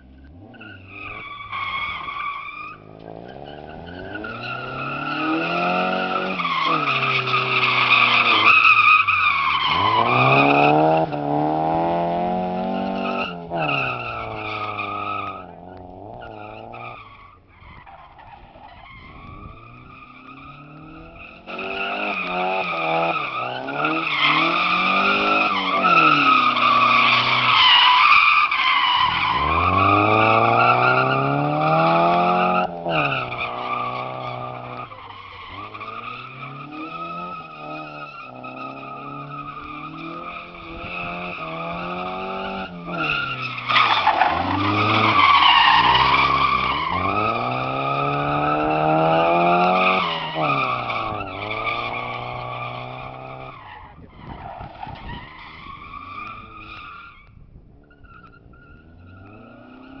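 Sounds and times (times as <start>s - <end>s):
car engine revving: 0.0s - 17.2s, 18.0s - 54.5s, 57.7s - 60.0s
tyres squealing on concrete: 0.3s - 60.0s.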